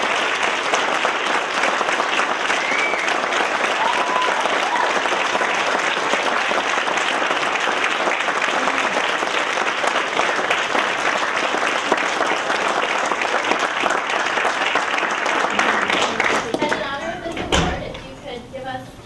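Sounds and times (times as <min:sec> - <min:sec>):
large audience applauding: 0:00.0 - 0:17.2.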